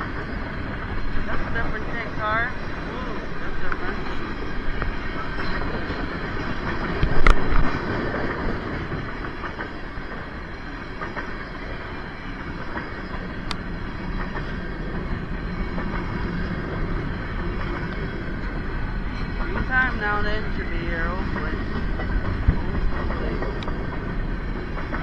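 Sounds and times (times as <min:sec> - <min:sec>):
freight train wheels clattering: 0:00.0 - 0:25.0.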